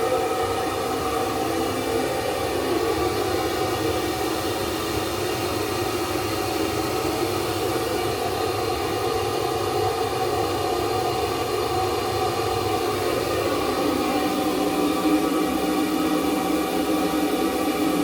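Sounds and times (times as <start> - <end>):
train running noise inside carriage: 0.0 - 18.0.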